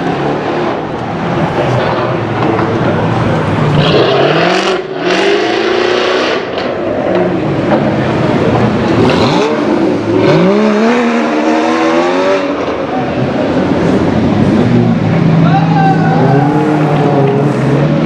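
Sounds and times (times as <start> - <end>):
second sports car accelerating: 0.0 - 18.0
sports car accelerating: 0.0 - 18.0.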